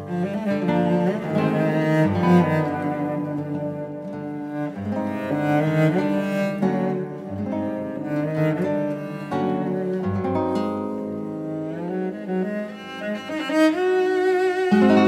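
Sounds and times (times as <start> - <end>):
cello bowing melody: 0.0 - 15.0
guitar plucking: 0.0 - 15.0.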